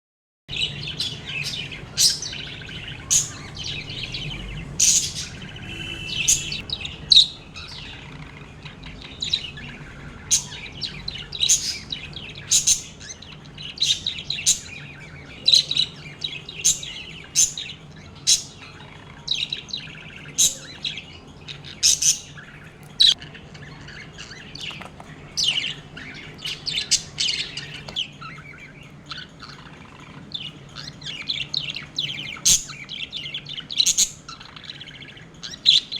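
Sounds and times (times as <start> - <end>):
budgerigars chirping: 0.5 - 35.9.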